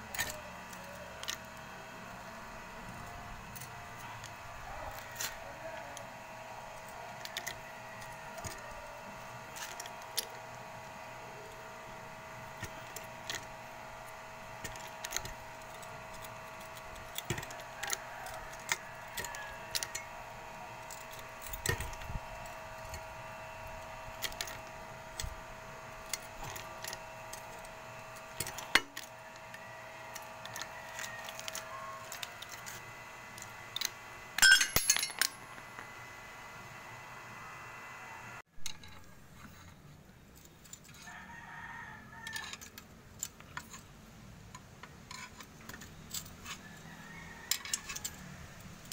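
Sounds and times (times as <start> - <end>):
small metal parts clinking: 0.0 - 11.1, 12.1 - 35.8, 38.6 - 41.1, 42.2 - 43.9, 44.5 - 46.9, 47.5 - 48.9.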